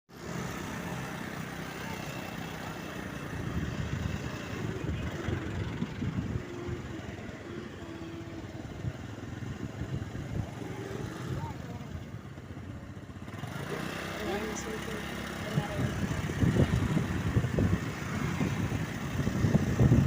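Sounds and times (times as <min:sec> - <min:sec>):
road traffic noise: 0:00.1 - 0:20.0
vehicle engine running: 0:00.1 - 0:20.0.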